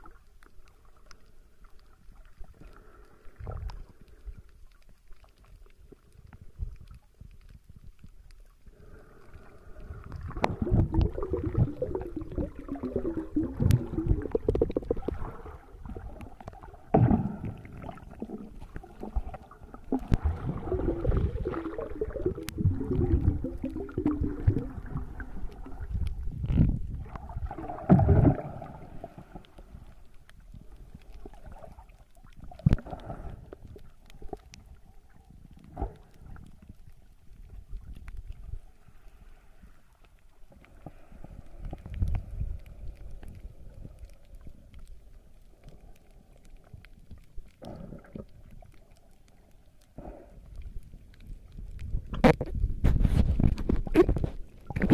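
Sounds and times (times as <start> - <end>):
underwater gurgling and bubbling: 0.0 - 54.9.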